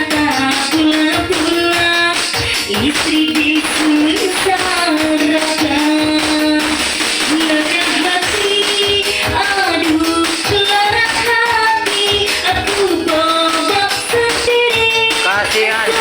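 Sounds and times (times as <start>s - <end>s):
instrumental music with a beat: 0.0s - 16.0s.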